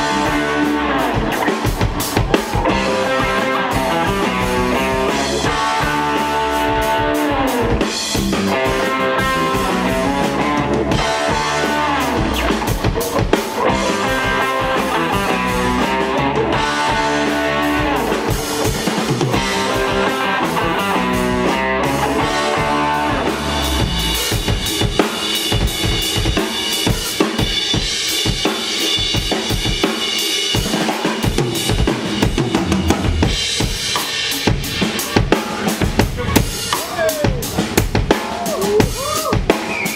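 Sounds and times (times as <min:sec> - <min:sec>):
blues-rock band playing: 0:00.0 - 0:39.9
drum kit: 0:00.0 - 0:39.9
electric guitars: 0:00.0 - 0:39.9.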